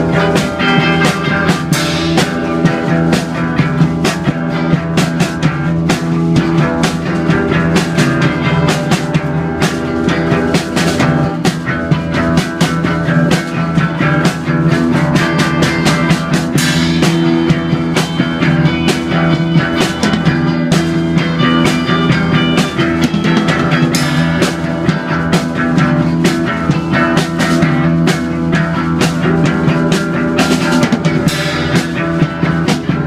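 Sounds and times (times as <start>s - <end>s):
held guitar chords: 0.0s - 33.0s
steady drum beat: 0.0s - 33.0s.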